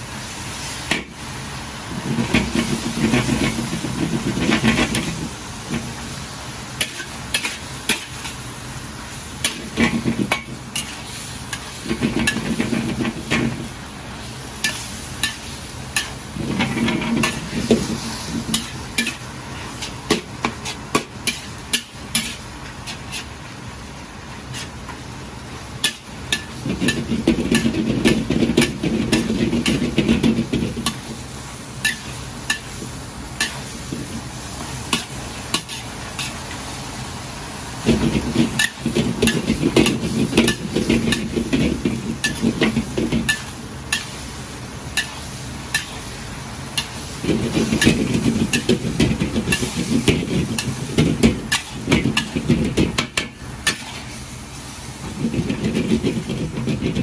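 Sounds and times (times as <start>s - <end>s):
meat sizzling: 0.0s - 57.0s
metal spatula scraping wok: 2.0s - 6.0s, 6.8s - 8.5s, 9.4s - 23.6s, 24.3s - 25.1s, 25.8s - 36.8s, 37.8s - 57.0s.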